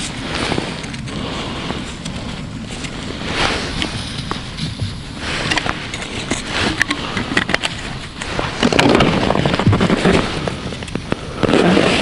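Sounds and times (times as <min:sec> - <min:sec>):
rustling of plastic gear: 0:00.0 - 0:12.0.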